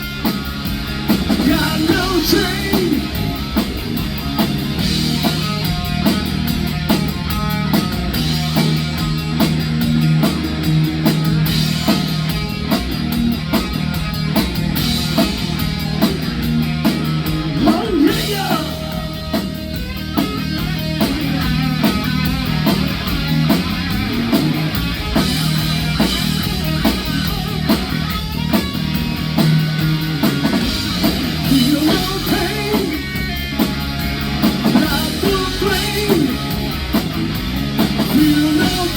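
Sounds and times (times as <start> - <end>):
drum kit beat: 0.0 - 38.9
rock band playing live: 0.0 - 38.9.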